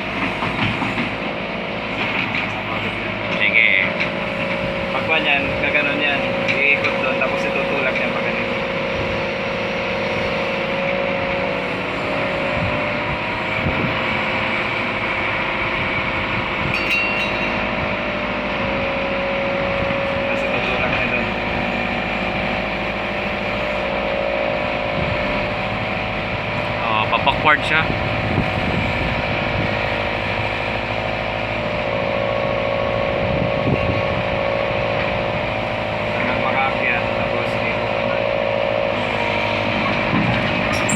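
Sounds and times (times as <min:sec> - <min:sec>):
backhoe diesel engine running: 0:00.0 - 0:40.9.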